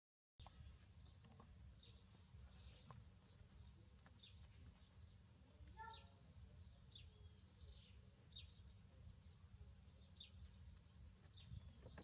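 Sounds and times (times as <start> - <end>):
bird chirps: 0.4 - 12.0.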